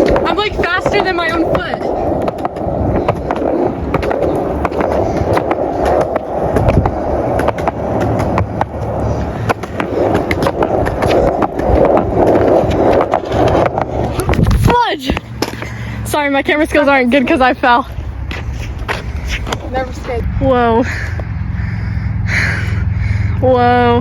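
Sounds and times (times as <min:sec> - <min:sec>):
skateboard wheels rolling on pavement: 0:00.0 - 0:21.6.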